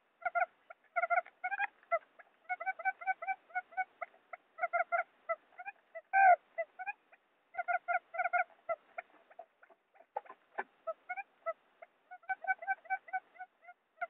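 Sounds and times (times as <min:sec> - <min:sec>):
quail calls: 0:00.2 - 0:14.0.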